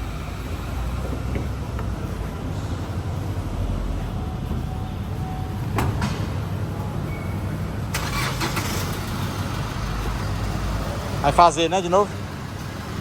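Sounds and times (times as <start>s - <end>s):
pickup engine low rumble: 0.0s - 13.0s.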